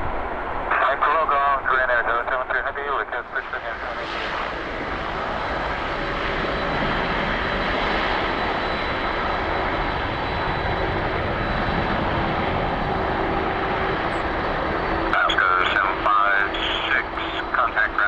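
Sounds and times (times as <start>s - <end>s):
jet engines roaring with high whine: 0.0s - 18.0s.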